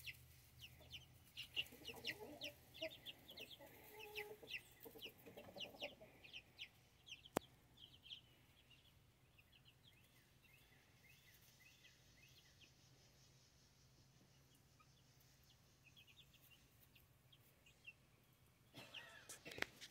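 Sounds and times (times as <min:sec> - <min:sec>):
chicks peeping: 0:00.0 - 0:19.9.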